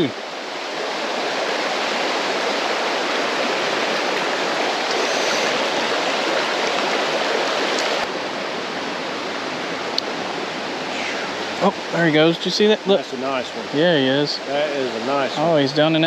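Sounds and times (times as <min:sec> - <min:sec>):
creek running over rocks: 0:00.0 - 0:16.0.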